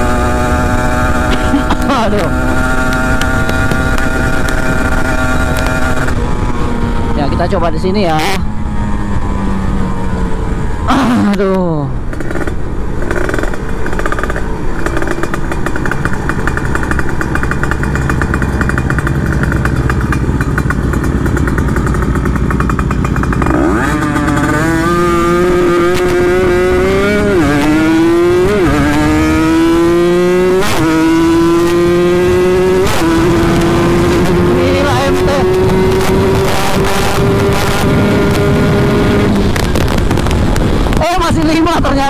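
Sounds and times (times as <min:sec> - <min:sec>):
two-stroke motorcycle accelerating: 0:00.0 - 0:42.0.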